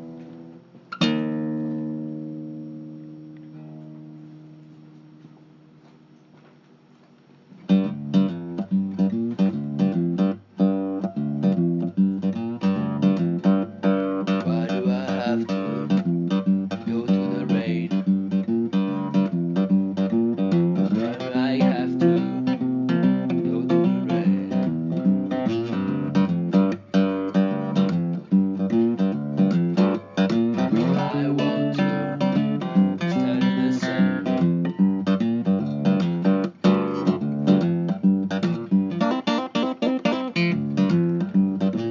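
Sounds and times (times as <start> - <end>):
acoustic guitar plucked and strummed: 0.0 - 6.1, 7.6 - 41.9.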